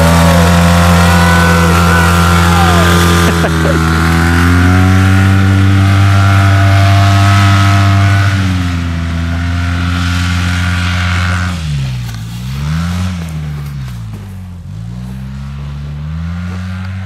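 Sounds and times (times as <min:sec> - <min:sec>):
engine running at high revs: 0:00.0 - 0:17.0.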